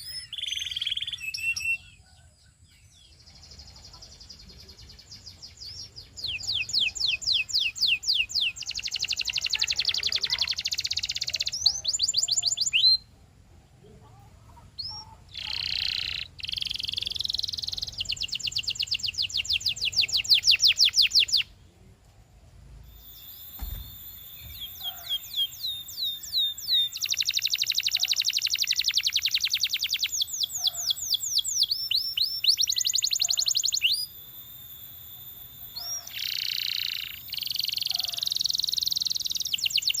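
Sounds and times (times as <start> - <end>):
canary singing trills: 0.0 - 13.2, 14.1 - 21.6, 22.8 - 40.0.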